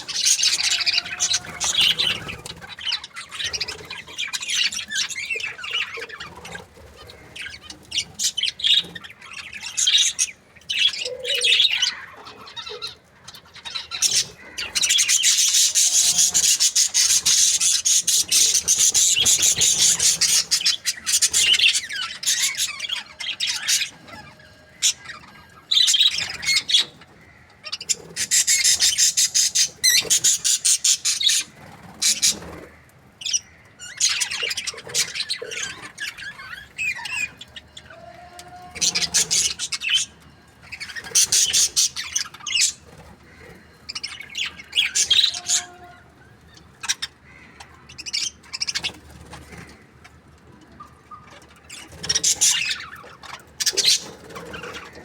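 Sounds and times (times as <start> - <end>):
budgerigars chirping: 0.0 - 37.8, 38.8 - 45.8, 46.6 - 49.8, 50.8 - 55.0.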